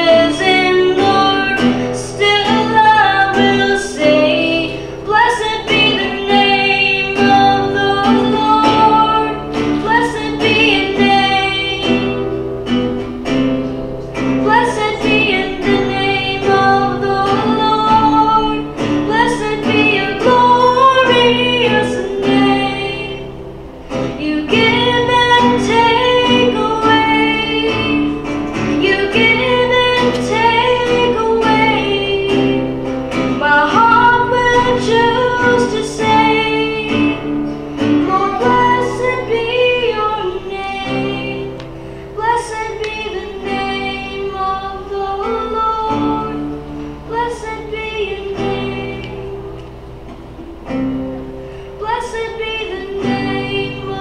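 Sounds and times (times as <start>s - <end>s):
young boy singing: 0.0s - 12.3s, 14.4s - 23.3s, 24.2s - 41.6s, 42.2s - 46.5s, 47.1s - 49.6s, 51.8s - 54.0s
nylon-string guitar: 0.0s - 54.0s.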